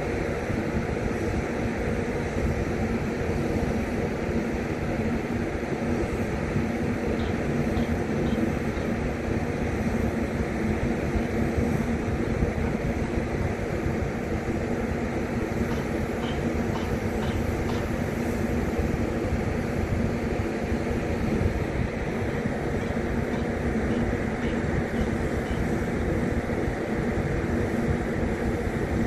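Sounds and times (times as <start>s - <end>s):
industrial machinery droning hum: 0.0s - 29.0s.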